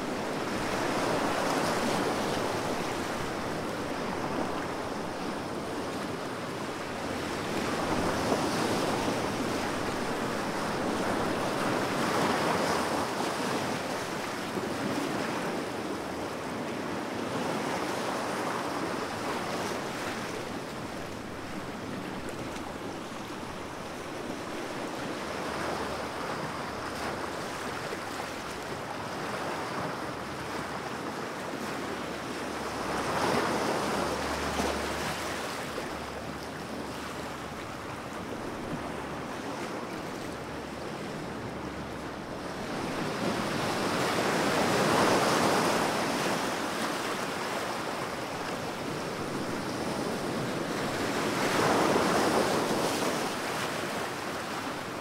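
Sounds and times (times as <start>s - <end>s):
ocean waves washing: 0.0s - 55.0s.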